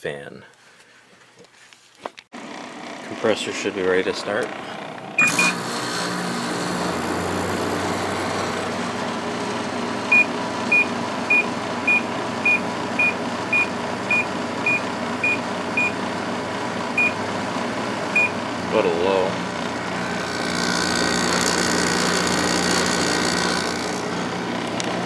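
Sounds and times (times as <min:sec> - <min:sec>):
compressor humming: 0:02.4 - 0:25.0
air conditioner fan noise: 0:03.1 - 0:25.0.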